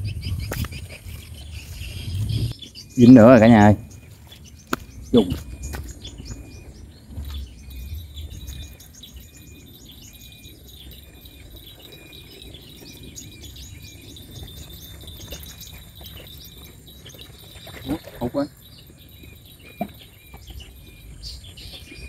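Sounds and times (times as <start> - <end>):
rapid high bird chirps: 0.0 - 22.0.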